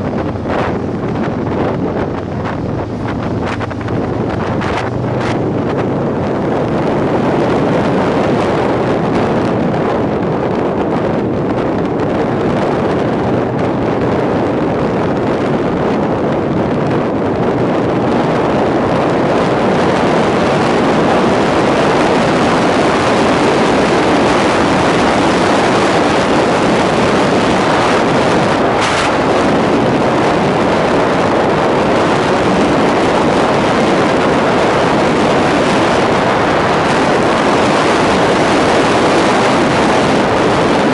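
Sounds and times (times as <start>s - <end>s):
road and engine noise: 0.0s - 40.9s
wind buffeting microphone: 0.0s - 40.9s.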